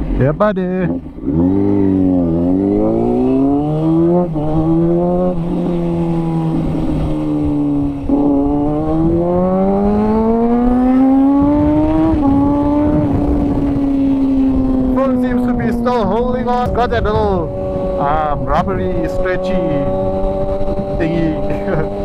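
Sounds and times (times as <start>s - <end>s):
motorcycle engine revving: 0.0s - 22.0s
wind rushing: 1.2s - 22.0s.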